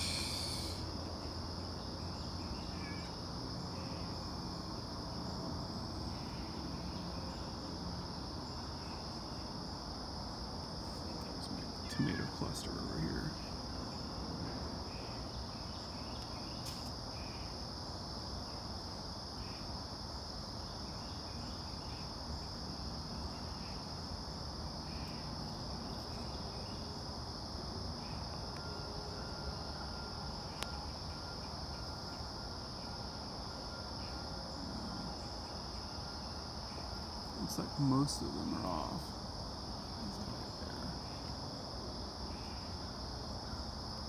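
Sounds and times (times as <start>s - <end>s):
faint insect chirps: 0.0s - 44.0s
insects trilling: 0.0s - 44.0s.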